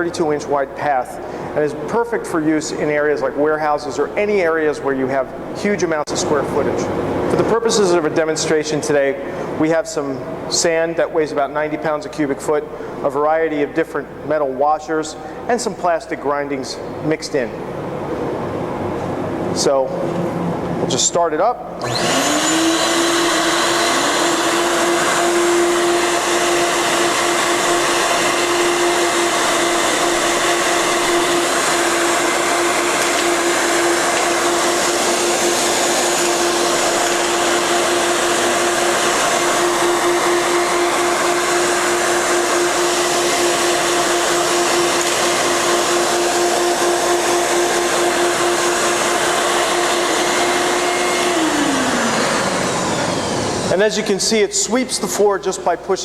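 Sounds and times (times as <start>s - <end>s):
industrial vacuum running: 0.0s - 56.0s.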